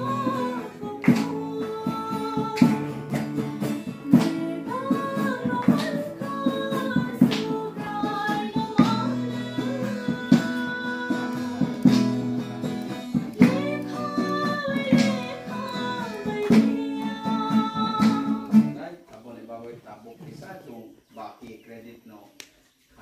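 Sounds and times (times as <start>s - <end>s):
woman singing: 0.0s - 18.8s
strummed acoustic guitar: 0.0s - 18.9s.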